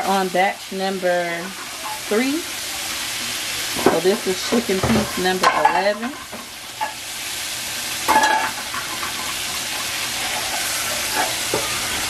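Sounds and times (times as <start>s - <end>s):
chicken deep-frying in hot oil: 0.0s - 12.0s.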